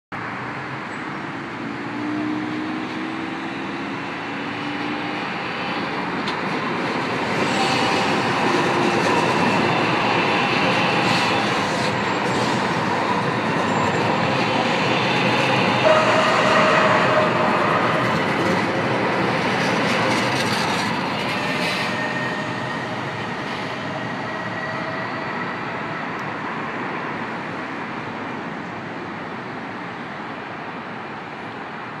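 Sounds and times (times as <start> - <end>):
train wheels rumbling on rail: 1.6 - 29.8.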